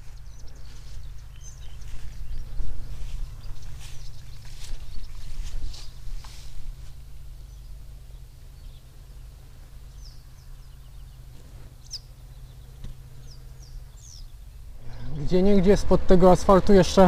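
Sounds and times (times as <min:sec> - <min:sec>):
bird chirps: 0:00.0 - 0:06.0, 0:07.0 - 0:15.2
wind rumble on microphone: 0:00.0 - 0:17.0.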